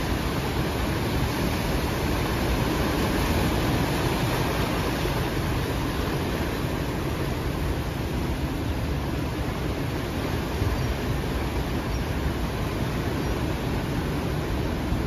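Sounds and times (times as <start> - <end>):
ocean surf over rocks: 0.0 - 15.0.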